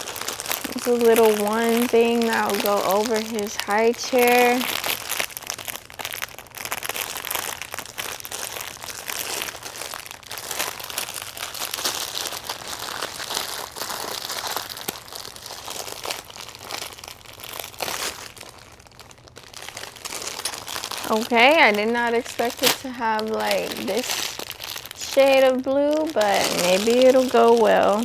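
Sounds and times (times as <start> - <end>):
crinkly packaging rustling: 0.0 - 28.0.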